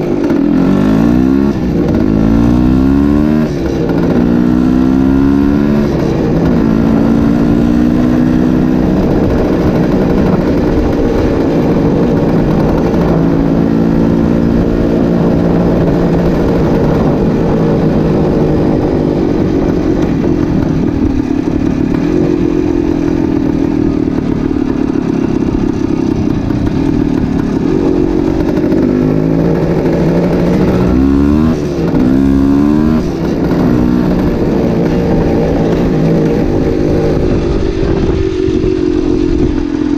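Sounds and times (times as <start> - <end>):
two-stroke motorcycle engine running: 0.0 - 39.9.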